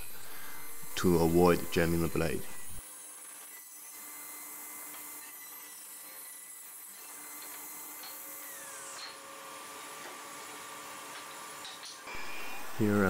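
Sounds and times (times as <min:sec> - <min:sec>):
table saw humming: 0:00.0 - 0:13.0.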